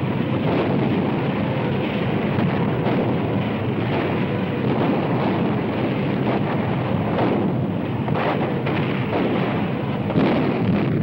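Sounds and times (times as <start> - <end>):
battle soundtrack rumble: 0.0 - 11.0.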